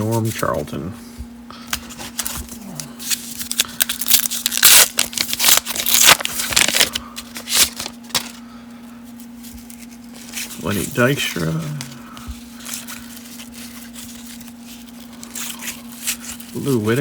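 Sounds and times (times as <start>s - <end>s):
cards rustling and flicking: 1.7s - 8.4s, 9.4s - 17.0s.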